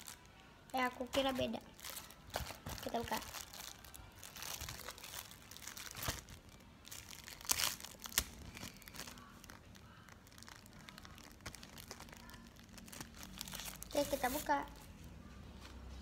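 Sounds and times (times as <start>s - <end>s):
plastic wrapper crinkling: 0.0s - 14.8s.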